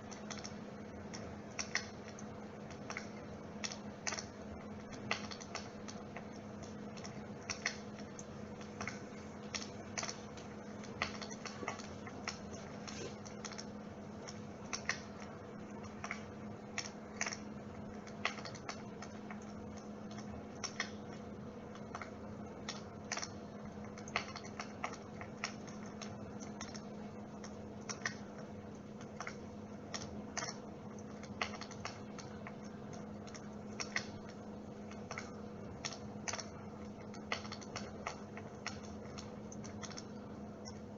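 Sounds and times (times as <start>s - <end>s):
electric fireplace hum: 0.0s - 40.9s
sharp crackling clicks: 0.1s - 40.9s.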